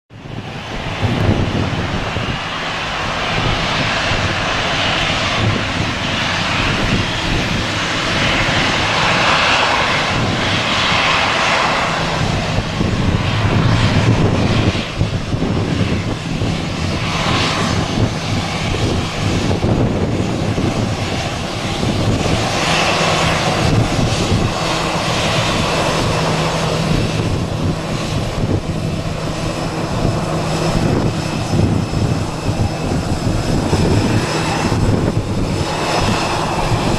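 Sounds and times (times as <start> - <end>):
jet engines drone: 0.1 - 36.9.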